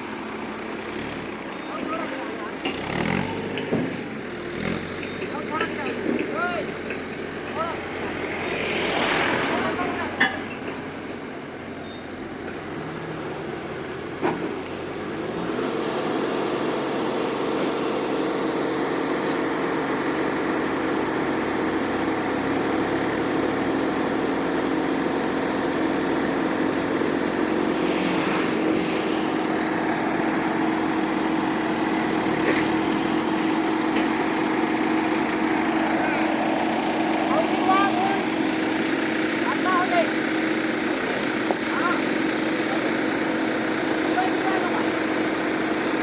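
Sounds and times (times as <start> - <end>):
heavy truck engine running: 0.0 - 46.0.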